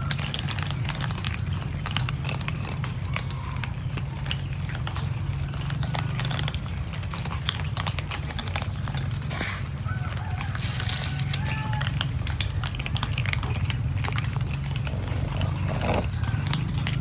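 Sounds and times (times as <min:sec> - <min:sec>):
cats crunching dry kibble: 0:00.0 - 0:17.0.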